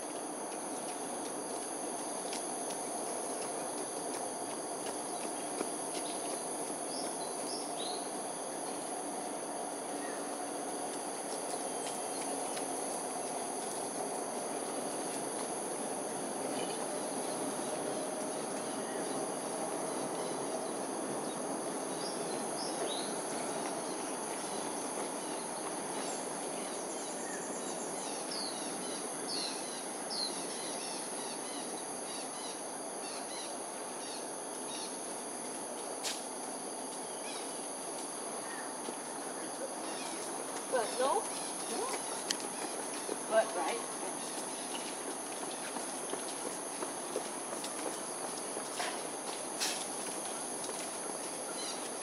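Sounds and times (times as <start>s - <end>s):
insects chorus: 0.0s - 52.0s
low background hum: 0.0s - 52.0s.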